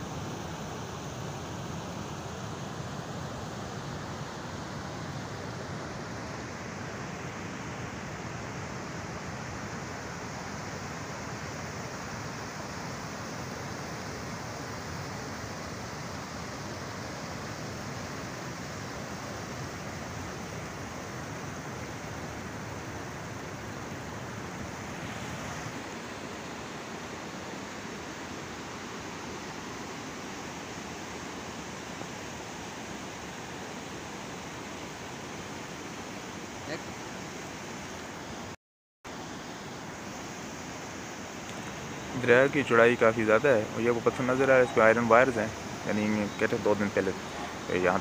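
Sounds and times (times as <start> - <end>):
river rushing over boulders: 0.0 - 48.0.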